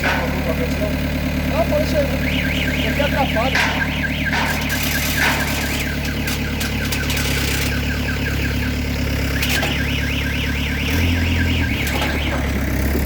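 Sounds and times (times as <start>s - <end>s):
loader engine running: 0.0s - 13.0s
warbling alarm tone: 1.7s - 13.0s.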